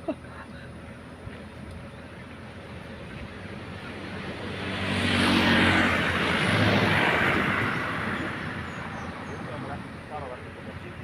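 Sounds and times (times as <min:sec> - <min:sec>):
vehicle engine passing by: 0:02.1 - 0:11.0.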